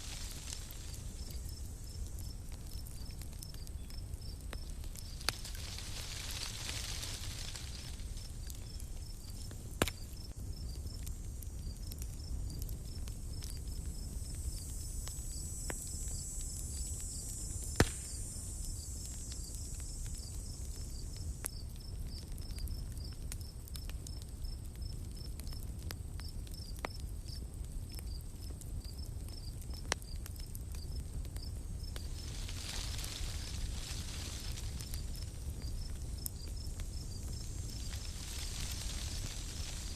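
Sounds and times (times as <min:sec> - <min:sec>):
insect chirping: 0:00.0 - 0:25.6, 0:28.0 - 0:39.9
fire pops: 0:00.0 - 0:39.9.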